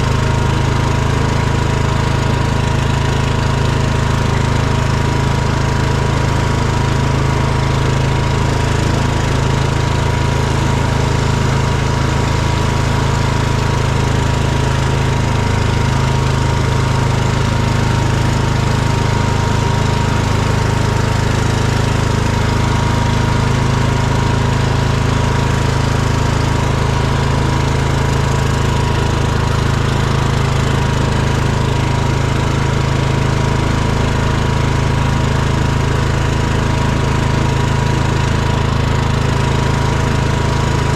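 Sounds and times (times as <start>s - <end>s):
engine running with steady whine: 0.0s - 40.9s.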